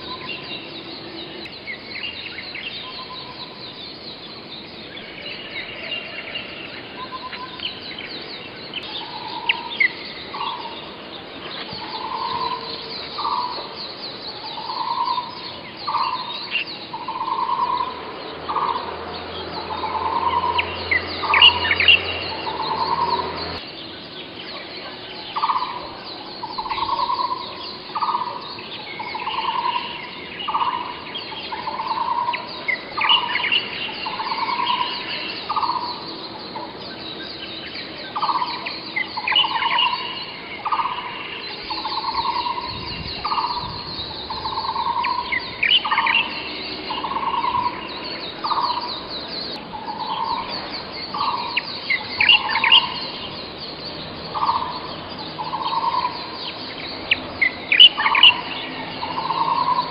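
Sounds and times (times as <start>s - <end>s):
higher bird chirps: 0.0s - 59.9s.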